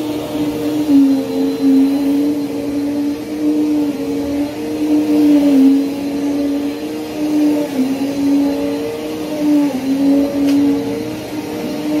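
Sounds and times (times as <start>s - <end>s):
upright vacuum cleaner running: 0.0s - 12.0s.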